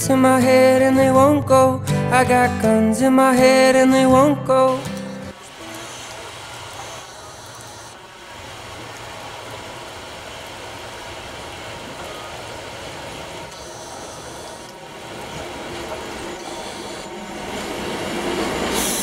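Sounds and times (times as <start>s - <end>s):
electric railcar running on track: 3.1s - 19.0s.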